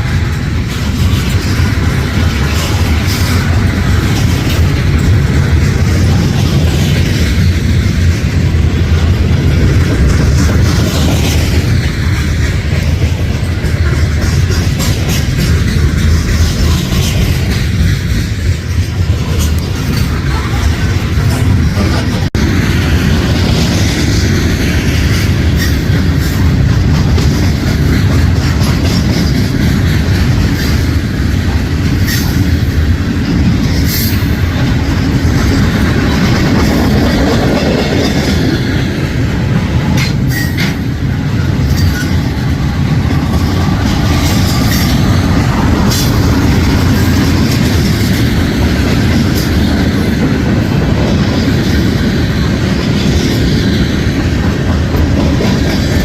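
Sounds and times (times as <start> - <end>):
freight train rumbling past: 0.0 - 56.0
train wheel clicks: 0.0 - 56.0.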